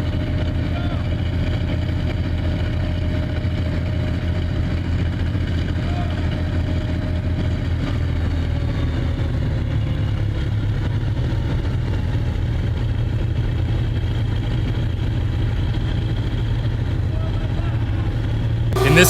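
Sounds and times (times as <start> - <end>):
tank engine idling: 0.0 - 19.0.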